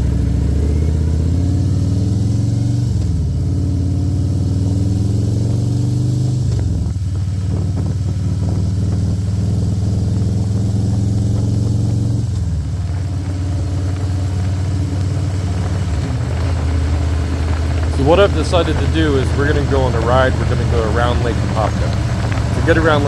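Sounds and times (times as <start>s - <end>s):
motorcycle engine shifting gears: 0.0s - 23.0s.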